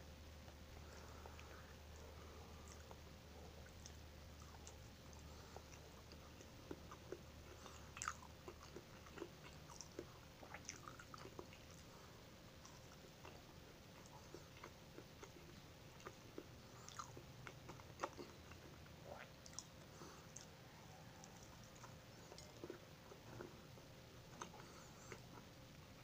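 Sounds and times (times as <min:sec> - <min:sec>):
chewing and mouth clicks: 0:02.5 - 0:12.0, 0:12.6 - 0:25.8.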